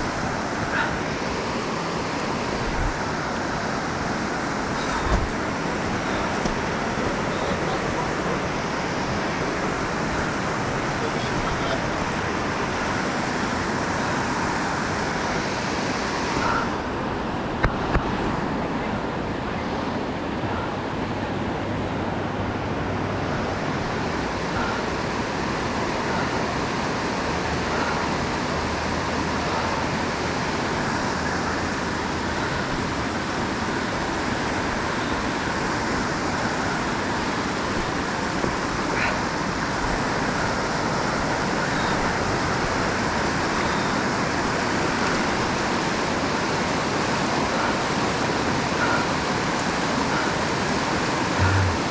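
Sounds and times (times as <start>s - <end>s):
water rushing over rocks: 0.0s - 51.9s.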